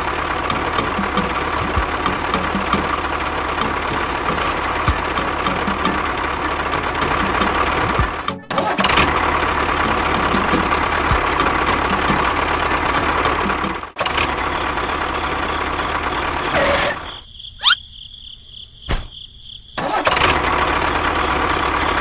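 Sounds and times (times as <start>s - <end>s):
small engine running: 0.0s - 17.1s, 19.8s - 22.0s.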